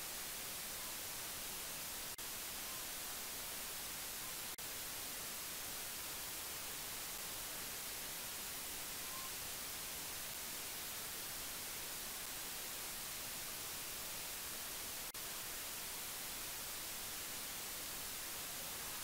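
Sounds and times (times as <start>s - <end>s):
electronic static hiss: 0.0s - 19.0s.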